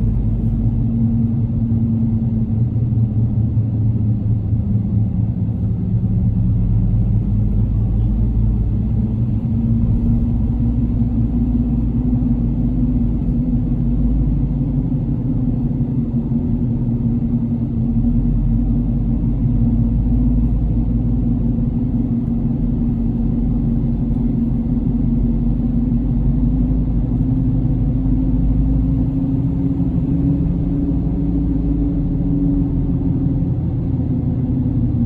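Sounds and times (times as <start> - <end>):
car driving: 4.4 - 35.0.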